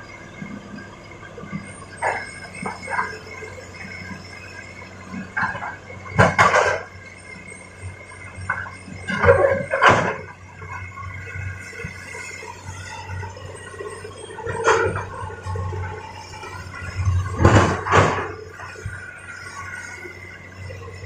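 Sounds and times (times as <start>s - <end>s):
excavator engine hum: 0.0s - 21.0s.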